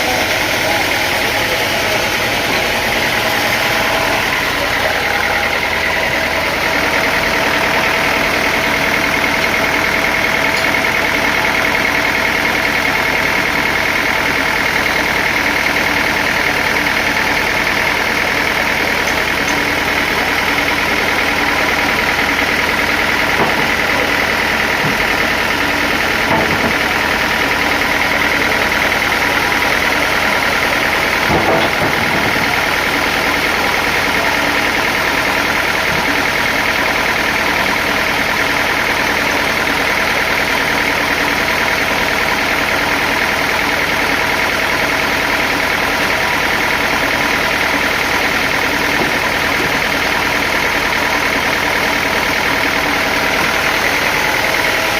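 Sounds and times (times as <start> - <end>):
high steady whine: 0.0 - 54.9
sawmill machinery hum: 0.0 - 54.9.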